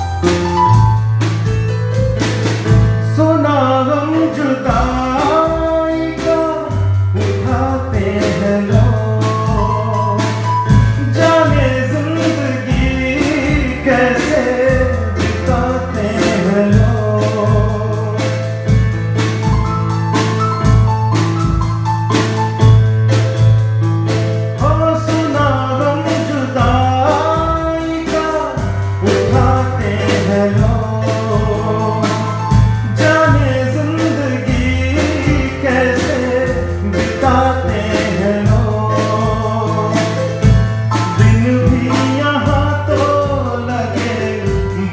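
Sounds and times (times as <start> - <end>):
drum kit with cymbals: 0.0 - 44.9
electronic keyboard chords: 0.0 - 44.9
man singing into a microphone: 3.0 - 18.8, 24.6 - 44.9.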